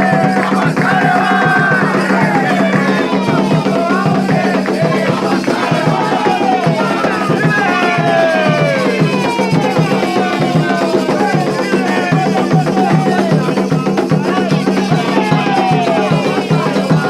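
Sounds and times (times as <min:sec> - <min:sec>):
hand drums beating: 0:00.0 - 0:17.0
voices singing a chant: 0:00.0 - 0:17.0.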